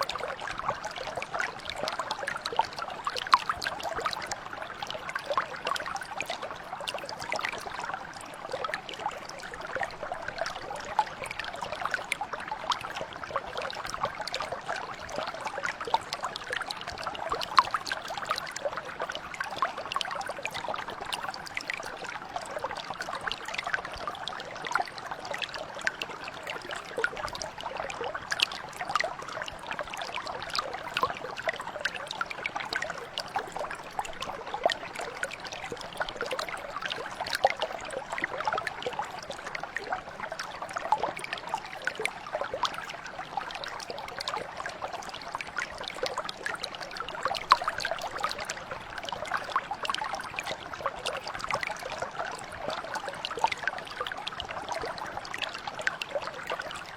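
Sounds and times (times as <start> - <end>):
brook flowing over stones: 0.0 - 56.9.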